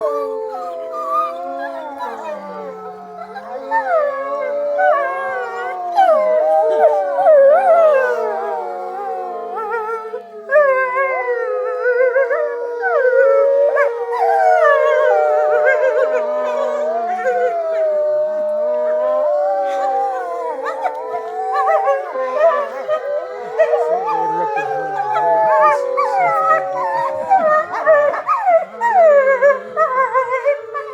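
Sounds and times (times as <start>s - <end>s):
wolves howling in chorus: 0.0s - 30.9s.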